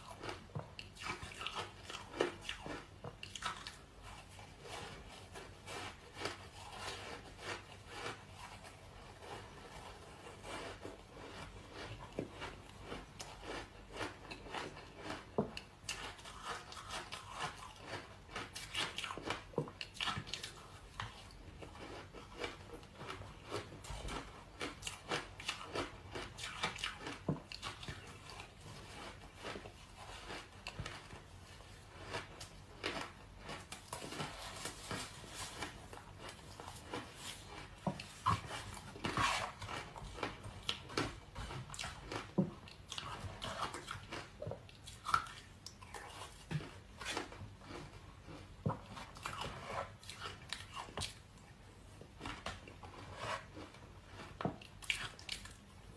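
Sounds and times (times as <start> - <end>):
chewing ice chunks: 0.0 - 55.9.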